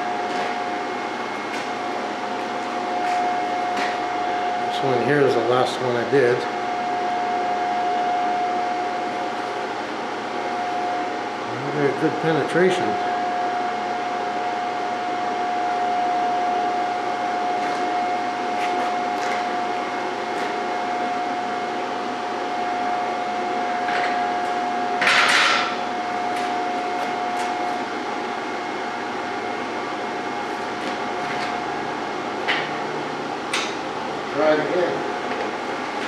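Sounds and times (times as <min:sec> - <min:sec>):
electric fan whining: 0:00.0 - 0:36.0.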